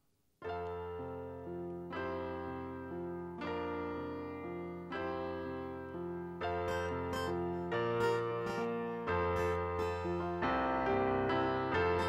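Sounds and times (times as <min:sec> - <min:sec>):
keyboard playing slow chords: 0:00.4 - 0:12.0.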